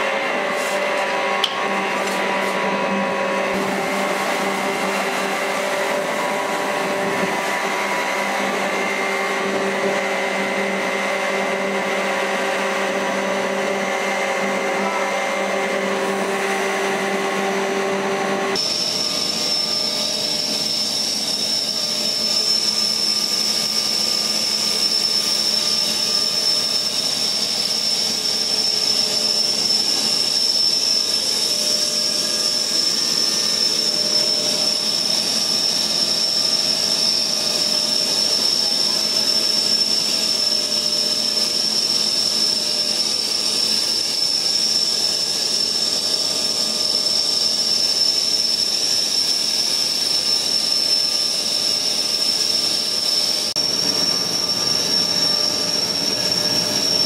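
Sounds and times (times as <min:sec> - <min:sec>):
air blower high whine: 0:00.0 - 0:57.0.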